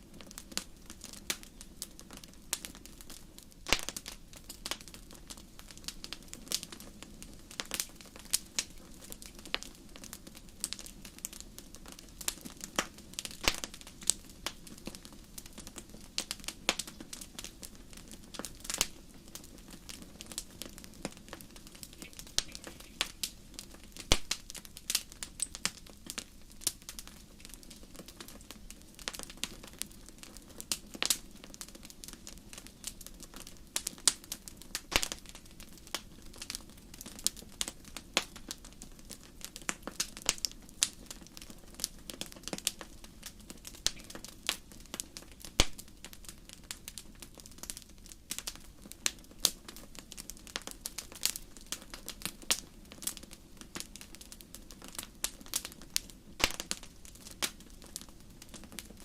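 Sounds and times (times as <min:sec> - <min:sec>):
fire crackling with sharp pops: 0:00.0 - 0:59.0.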